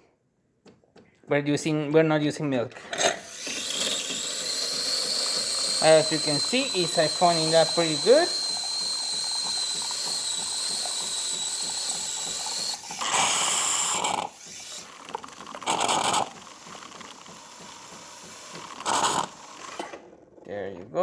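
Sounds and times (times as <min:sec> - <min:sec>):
frothing spout spurting: 0:03.1 - 0:20.0
milk frother hissing with whistle: 0:03.1 - 0:20.0.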